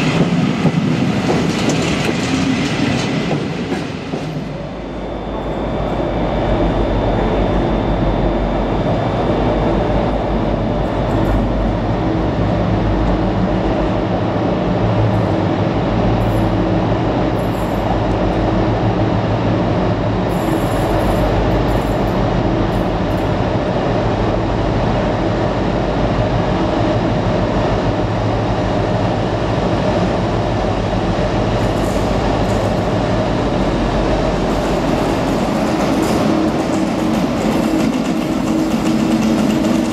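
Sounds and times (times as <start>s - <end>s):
diesel locomotive engine drone: 0.0s - 39.9s.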